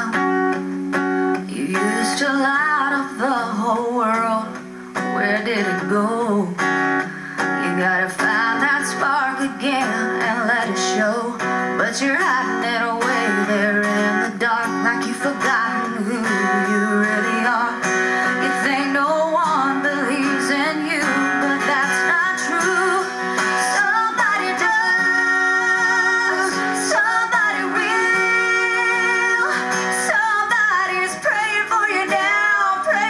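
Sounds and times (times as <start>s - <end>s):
strummed acoustic guitar: 0.0s - 33.0s
woman singing: 1.4s - 33.0s.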